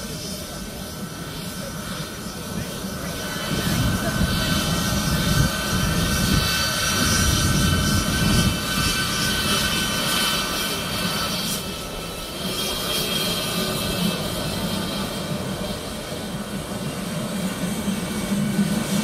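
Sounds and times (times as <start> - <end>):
jet engines rumbling and whining: 0.0 - 19.0.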